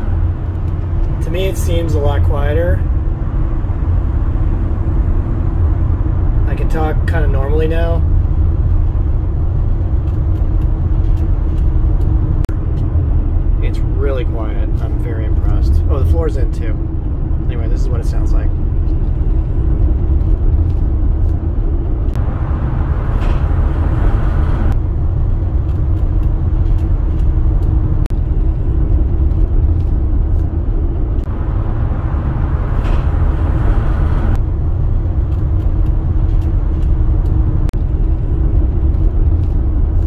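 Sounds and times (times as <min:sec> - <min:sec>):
road noise inside van: 0:00.0 - 0:40.0.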